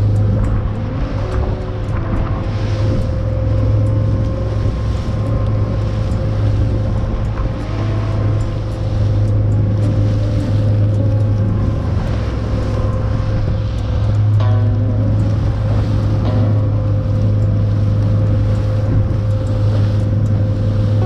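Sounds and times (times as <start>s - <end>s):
boat engine droning: 0.0s - 21.0s
water rushing past hull: 0.0s - 21.0s
wind: 0.0s - 21.0s.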